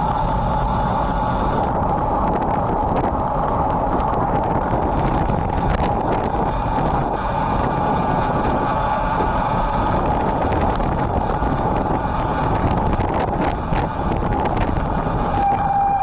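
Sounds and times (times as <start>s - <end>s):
bike riding noise: 0.0s - 16.0s
wind rushing on microphone: 0.0s - 16.0s.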